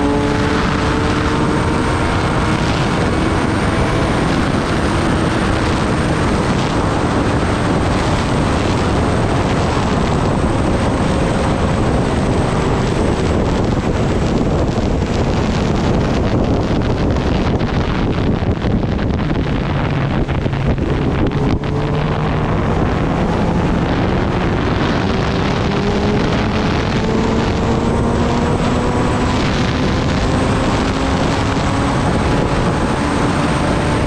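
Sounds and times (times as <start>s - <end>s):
motorcycle engine humming: 0.0s - 34.0s
wind rushing over microphone: 0.0s - 34.0s.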